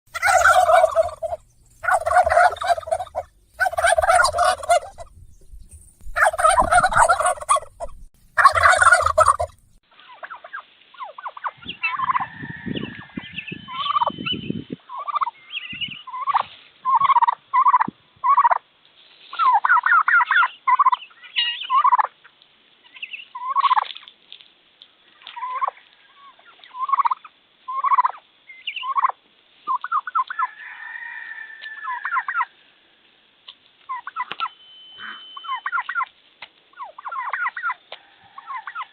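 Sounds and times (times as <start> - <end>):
turkeys gobbling: 0.1 - 14.1, 14.9 - 18.6, 19.3 - 22.2, 22.8 - 24.0, 25.2 - 32.6, 33.9 - 36.1, 36.7 - 38.9.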